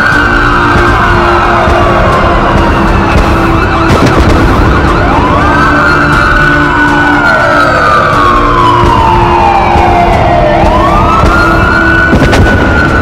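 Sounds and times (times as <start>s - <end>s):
wailing sirens: 0.0s - 13.0s.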